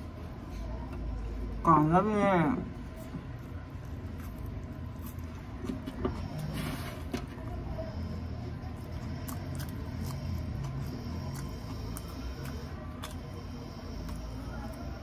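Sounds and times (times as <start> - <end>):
onion being bitten and chewed: 2.6 - 15.0.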